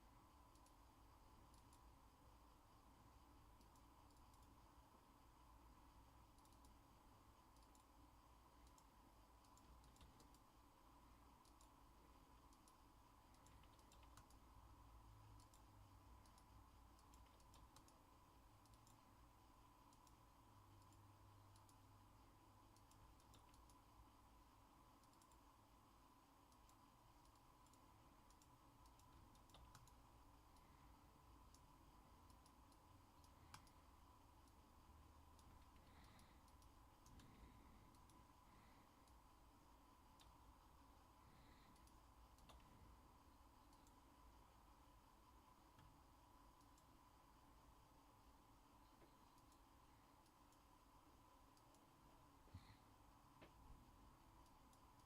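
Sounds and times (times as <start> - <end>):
steady hum: 0.0 - 55.0
faint clicks: 0.3 - 2.6, 3.4 - 5.1, 5.8 - 21.9, 22.5 - 25.6, 26.4 - 47.5, 48.2 - 55.0.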